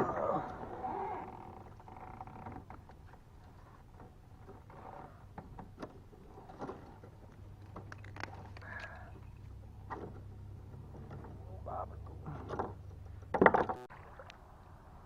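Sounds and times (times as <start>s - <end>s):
gear clicks and knocks: 1.2s - 13.9s.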